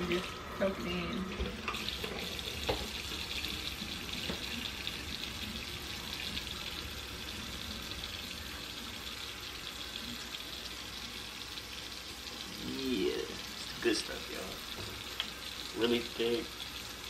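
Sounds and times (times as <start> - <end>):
faucet water splashing into sink: 1.2 - 17.0.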